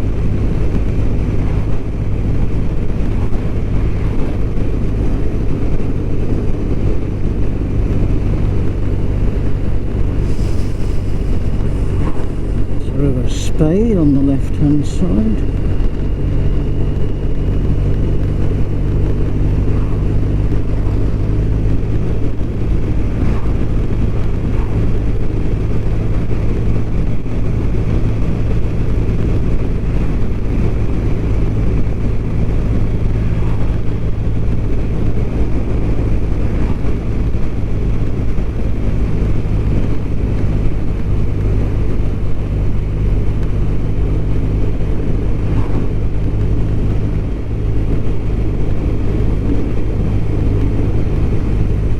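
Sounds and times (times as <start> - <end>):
motorcycle engine cruising: 0.0 - 51.9
riding wind rush: 0.0 - 51.9.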